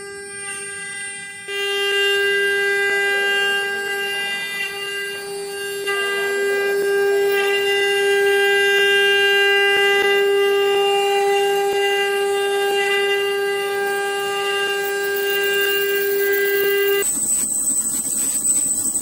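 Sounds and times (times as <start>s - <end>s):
router high-pitched whine: 0.0s - 19.0s.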